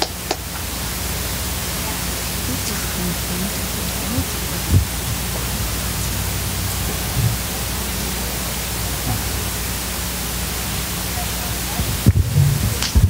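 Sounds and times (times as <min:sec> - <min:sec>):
low electrical hum: 0:00.0 - 0:13.0
steady hiss: 0:00.0 - 0:13.0.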